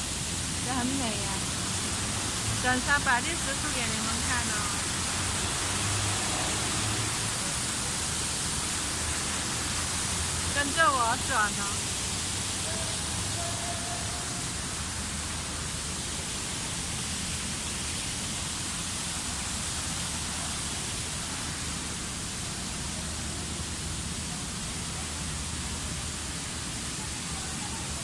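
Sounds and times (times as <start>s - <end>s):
waterfall rushing into pond: 0.0s - 28.0s.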